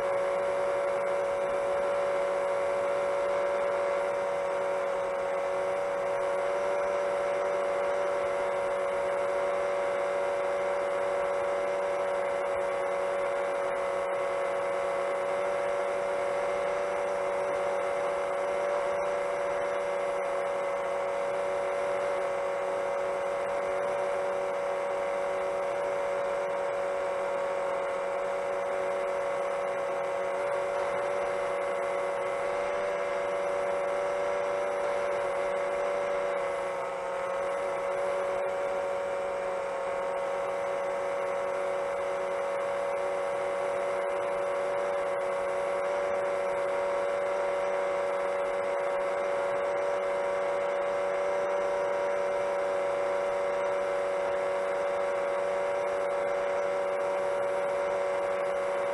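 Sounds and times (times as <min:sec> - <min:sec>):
quadcopter motors humming: 0:00.0 - 0:58.9.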